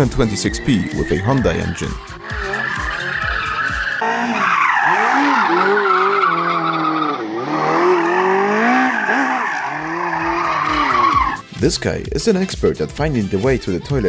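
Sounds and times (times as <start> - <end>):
tyres squealing: 0.0 - 11.5
car engine revving: 0.0 - 11.6.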